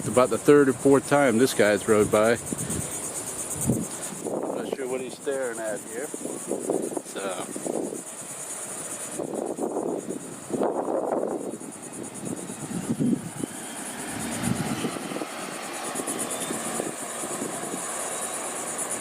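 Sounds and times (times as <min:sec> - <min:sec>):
engine drone: 0:00.0 - 0:19.0
high pulsing insect buzz: 0:00.0 - 0:19.0.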